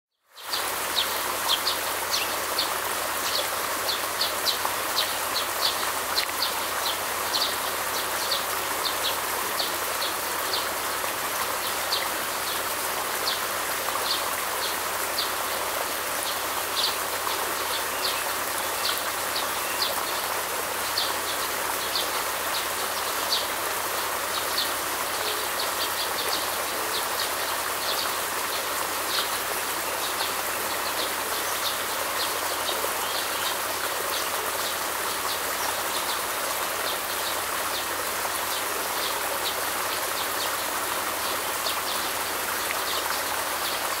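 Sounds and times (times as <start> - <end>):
stream water rushing: 0.2 - 44.0.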